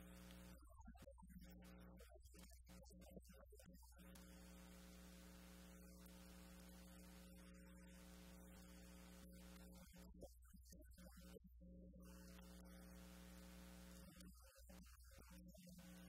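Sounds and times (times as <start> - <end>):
faint mains hum with hiss: 0.0 - 16.0.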